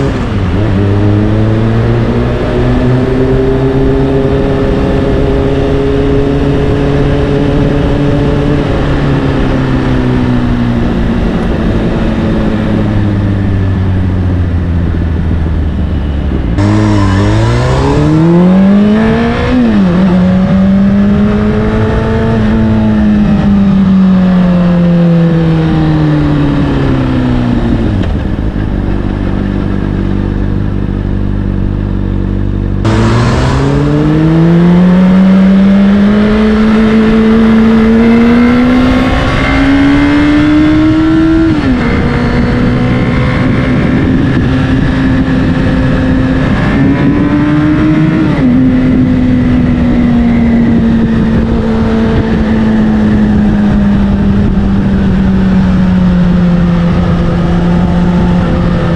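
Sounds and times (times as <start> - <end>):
wind rush: 0.0 - 32.0, 32.6 - 58.9
motorcycle engine revving: 0.0 - 58.9.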